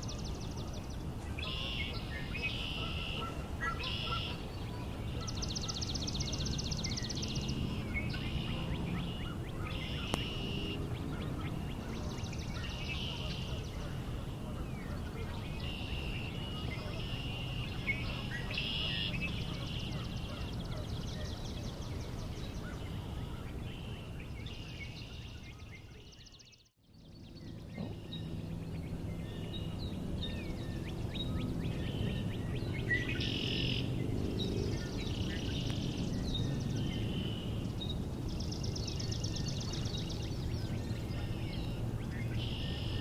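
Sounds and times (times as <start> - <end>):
bird trills: 0.0 - 26.5, 27.5 - 43.0
songbirds singing: 0.0 - 43.0.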